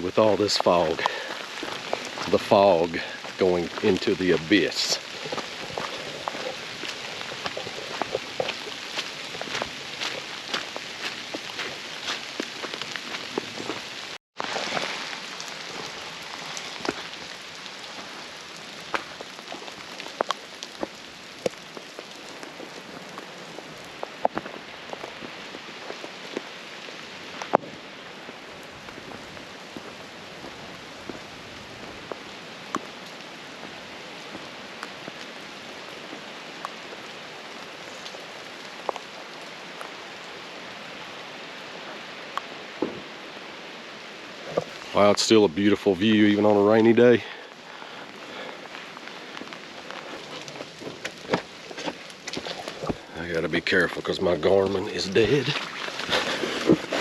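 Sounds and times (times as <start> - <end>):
raindrops ticking close by: 0.0 - 57.0
steady rain falling: 0.0 - 57.0.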